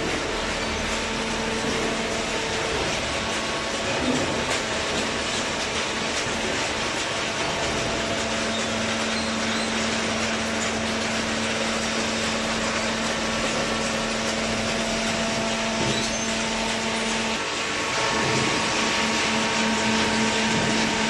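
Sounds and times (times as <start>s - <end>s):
baler machine humming: 0.0s - 21.0s.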